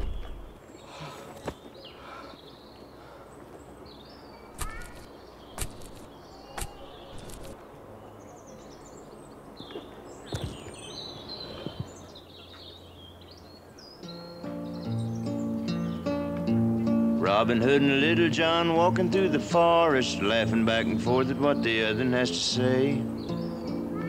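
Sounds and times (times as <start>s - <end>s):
birds chirping: 0.0s - 24.0s
steady background noise: 0.0s - 24.0s.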